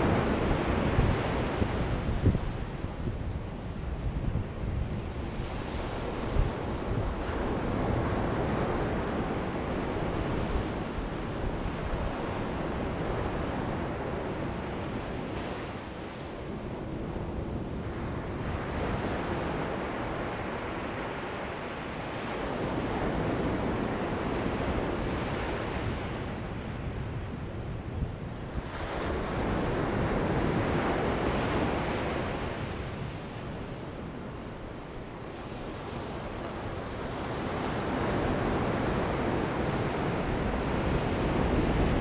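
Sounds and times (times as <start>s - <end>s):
waves breaking on beach: 0.0s - 42.0s
wind rumbling on microphone: 0.0s - 42.0s.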